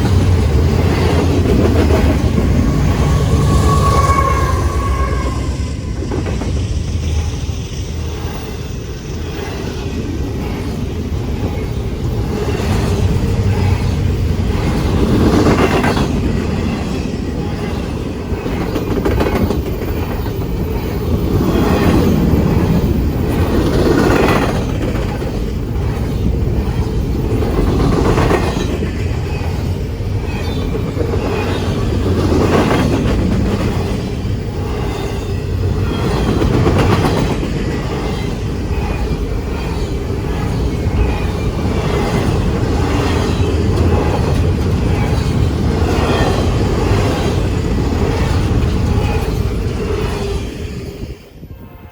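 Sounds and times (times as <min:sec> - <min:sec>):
freight train wheels clattering: 0:00.0 - 0:51.0.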